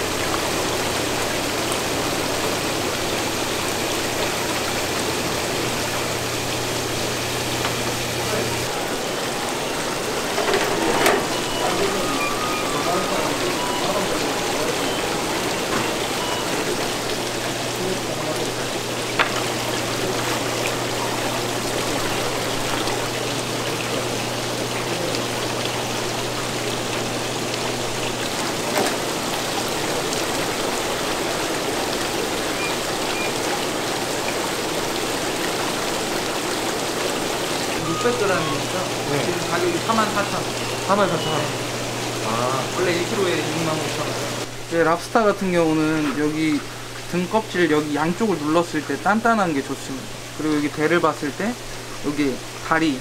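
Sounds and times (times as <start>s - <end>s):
water splashing and bubbling: 0.0s - 44.8s.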